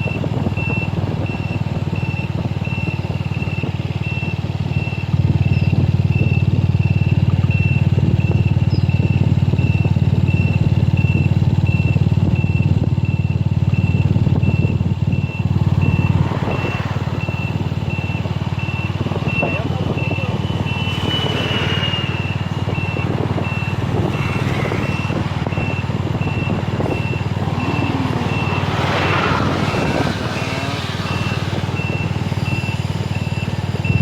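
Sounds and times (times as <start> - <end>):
high electronic beeps: 0.0 - 34.0.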